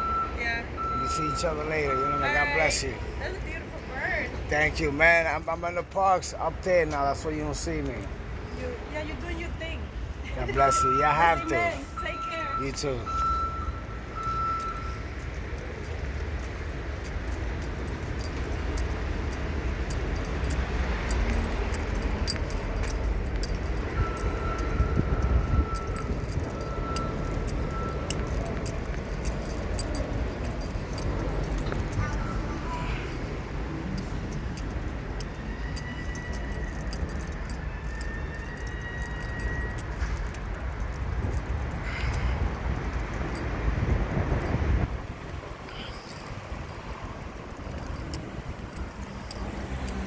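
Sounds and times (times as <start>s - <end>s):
passing vehicles rumbling: 0.0s - 50.0s.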